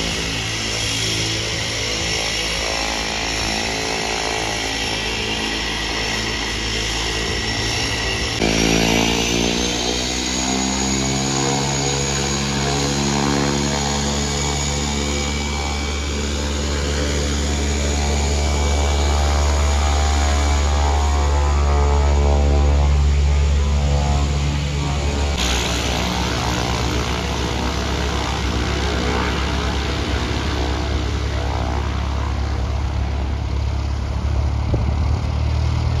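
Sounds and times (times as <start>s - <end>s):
propeller drone: 0.0s - 36.0s
turboprop turbine whine: 0.0s - 36.0s.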